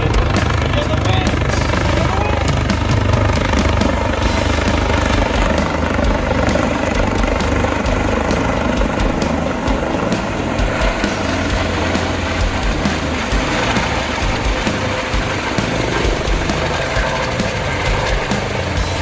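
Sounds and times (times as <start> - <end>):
helicopter rotor and engine rumble: 0.0 - 19.0.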